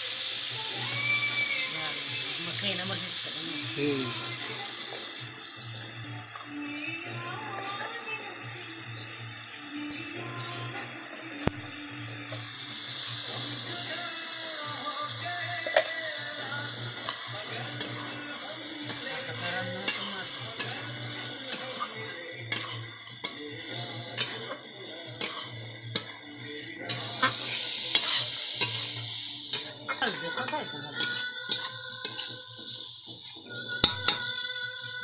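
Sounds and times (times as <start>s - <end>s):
chicken sizzling in metal pan: 0.0s - 35.0s.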